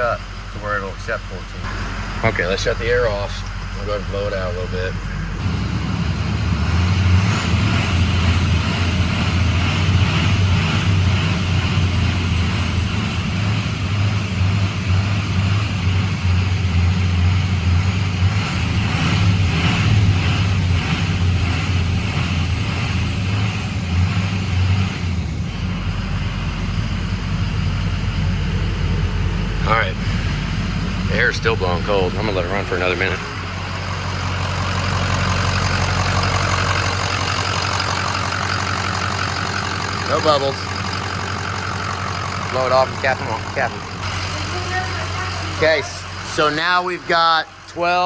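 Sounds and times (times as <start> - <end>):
diesel engine revving: 0.0 - 48.0.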